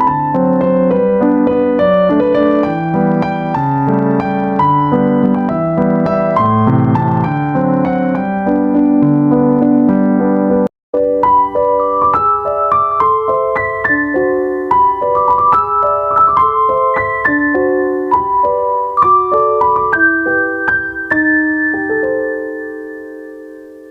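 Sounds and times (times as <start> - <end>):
gentle piano melody: 0.0 - 23.9.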